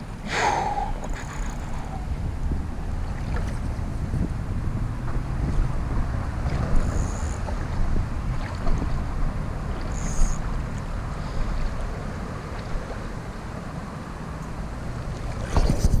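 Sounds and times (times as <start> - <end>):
steady wash of water: 0.0 - 16.0
wind rumbling on microphone: 0.0 - 16.0.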